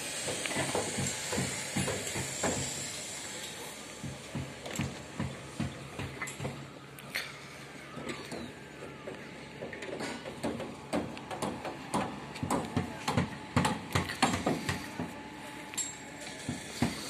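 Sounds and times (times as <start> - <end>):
construction knocks and clanks: 0.2 - 17.0.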